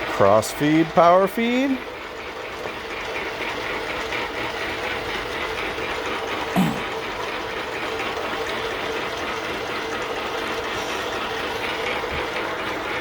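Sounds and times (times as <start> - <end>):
metal lathe gears clattering: 0.0 - 13.0.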